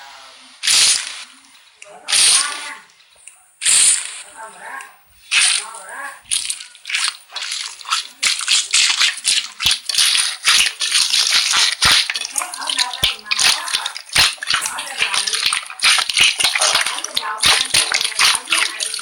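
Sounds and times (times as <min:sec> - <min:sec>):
slime squished by hand: 0:00.6 - 0:02.7, 0:03.6 - 0:04.2, 0:05.2 - 0:19.0.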